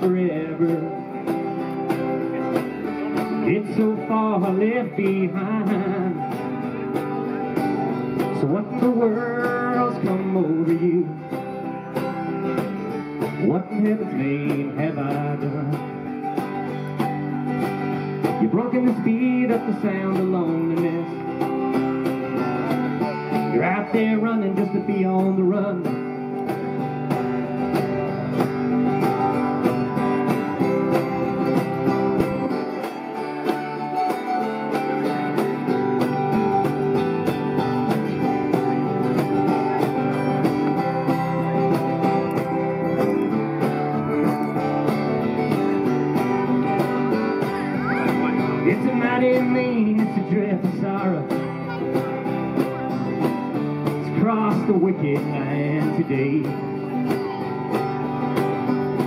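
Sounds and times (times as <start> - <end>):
acoustic guitar strumming: 0.0 - 59.0
cajon beat: 0.0 - 59.0
mandolin: 0.0 - 59.0.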